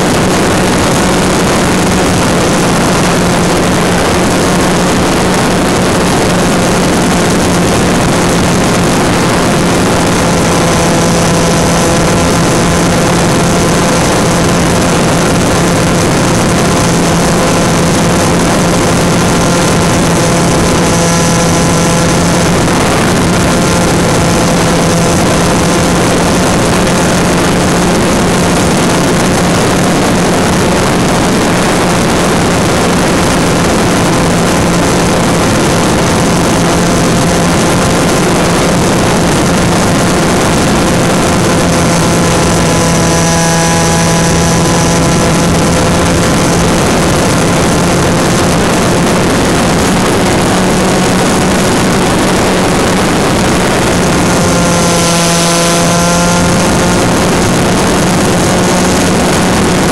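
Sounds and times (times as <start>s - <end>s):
electric motor humming: 0.0s - 59.9s
rush of air: 0.0s - 59.9s.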